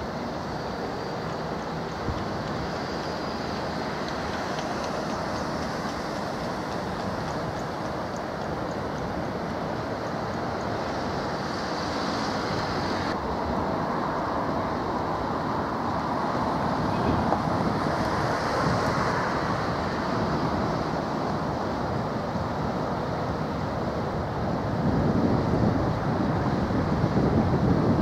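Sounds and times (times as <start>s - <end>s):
rushing water: 0.0s - 28.0s
wind: 0.0s - 28.0s.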